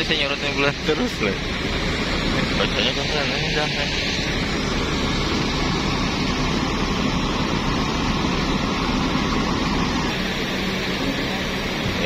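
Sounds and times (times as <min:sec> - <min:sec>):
bus diesel engines idling: 0:00.0 - 0:12.0
low steady hum: 0:00.0 - 0:12.0.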